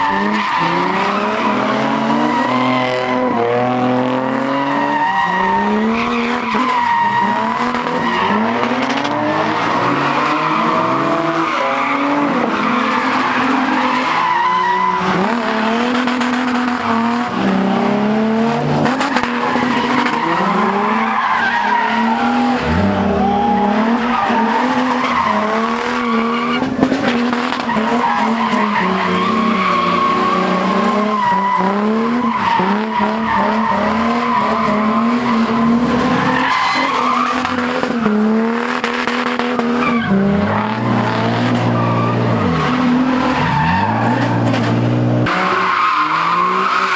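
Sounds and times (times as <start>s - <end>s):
car engines revving: 0.0s - 46.9s
tires squealing: 0.0s - 46.9s.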